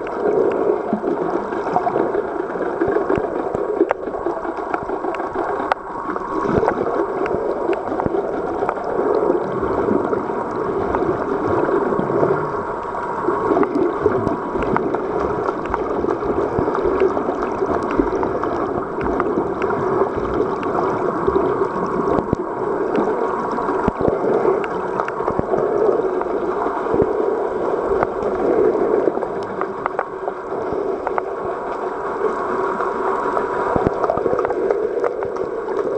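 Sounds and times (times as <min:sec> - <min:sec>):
underwater rush and hum: 0:00.0 - 0:35.9
faint clicks: 0:01.4 - 0:09.5, 0:12.2 - 0:20.8, 0:21.6 - 0:27.2, 0:27.9 - 0:35.9.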